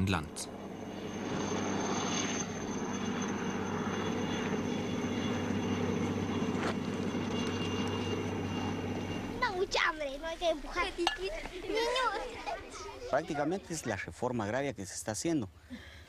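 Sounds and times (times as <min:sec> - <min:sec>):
small aircraft engine droning: 0:00.0 - 0:13.5.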